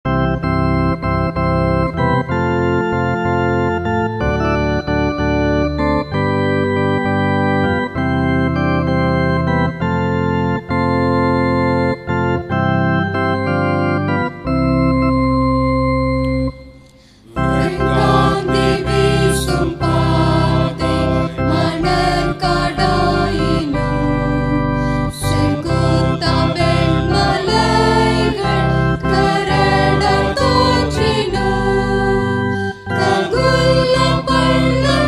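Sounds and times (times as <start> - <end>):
electronic keyboard organ chords: 0.0 - 35.0.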